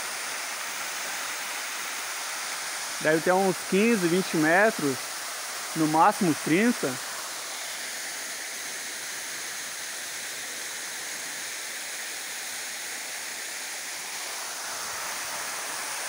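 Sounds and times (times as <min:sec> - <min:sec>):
waterfall rushing onto stones: 0:00.0 - 0:16.0.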